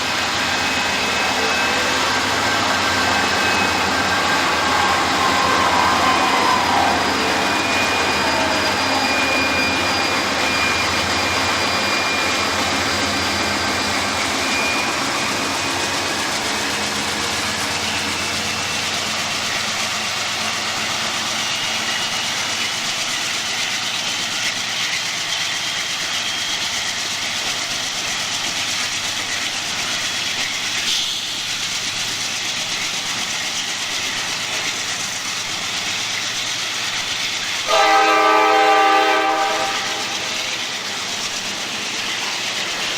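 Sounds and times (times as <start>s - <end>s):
high wheel squealing: 0.0s - 42.9s
train wheels rumbling on rails: 0.0s - 42.9s.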